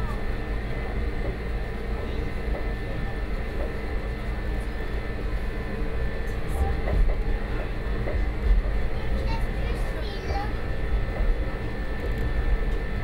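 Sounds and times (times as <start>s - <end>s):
thin steady whine: 0.0s - 13.0s
train wheels rumbling: 0.0s - 13.0s.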